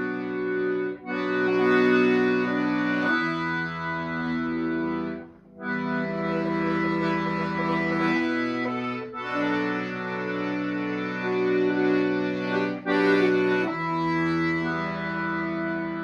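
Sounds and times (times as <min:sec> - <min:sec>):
accordion drone chords: 0:00.0 - 0:16.0.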